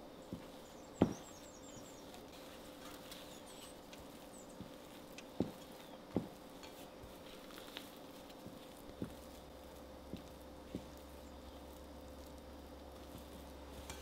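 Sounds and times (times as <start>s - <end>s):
spatula scraping and squishing dough: 0.3s - 14.0s.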